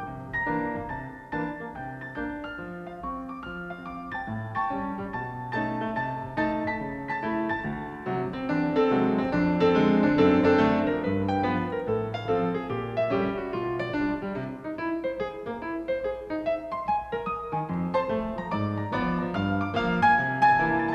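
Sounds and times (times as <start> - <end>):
jazz piano solo: 0.0 - 20.9.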